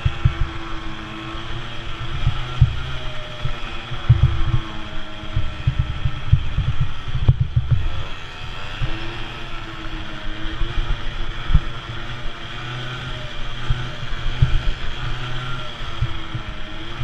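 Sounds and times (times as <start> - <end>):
small race engine running hard: 0.0 - 17.0
wind buffeting on microphone: 0.0 - 17.0.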